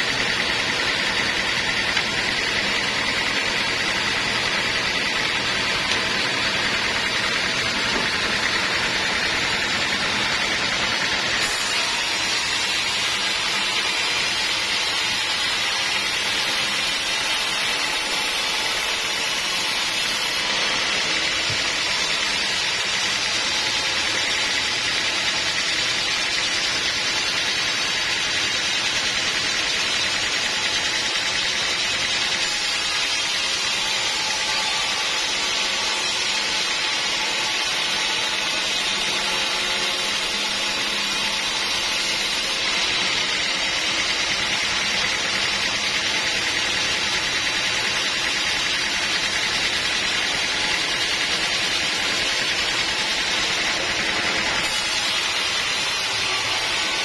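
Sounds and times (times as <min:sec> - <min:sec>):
sawmill saw cutting wood: 0:00.0 - 0:57.0.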